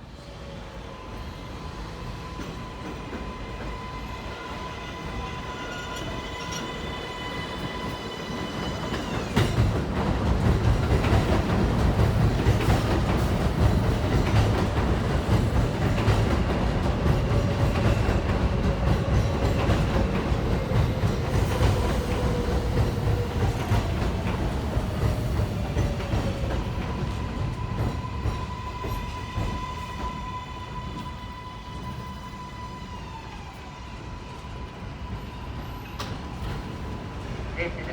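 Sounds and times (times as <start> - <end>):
subway train rumble: 0.0 - 37.9.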